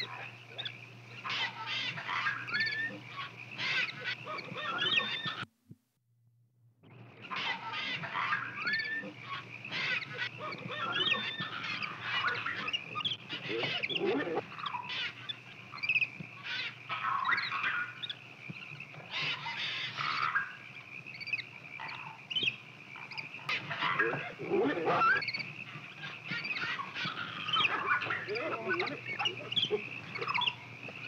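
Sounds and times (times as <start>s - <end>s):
monkeys squeaking and squealing: 1.3s - 5.5s, 7.3s - 18.2s, 19.0s - 30.6s.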